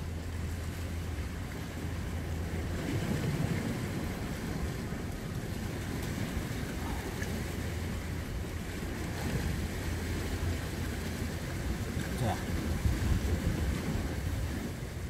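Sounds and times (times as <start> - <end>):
sea waves against rocks: 0.0 - 15.0
wind noise on microphone: 0.0 - 15.0.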